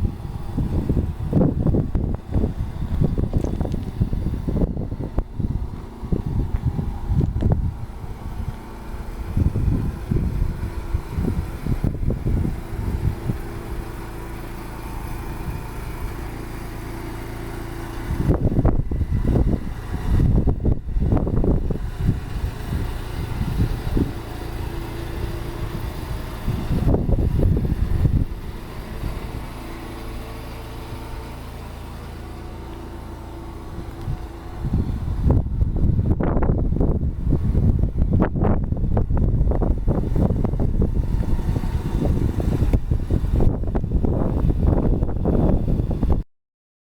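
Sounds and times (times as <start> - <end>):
gusty wind buffeting microphone: 0.0 - 46.2
steady low hum: 0.0 - 46.2.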